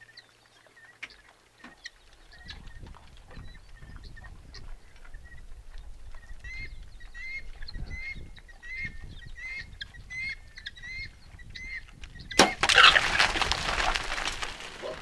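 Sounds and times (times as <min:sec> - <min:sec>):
guineafowl chirping calls: 0:00.0 - 0:13.0.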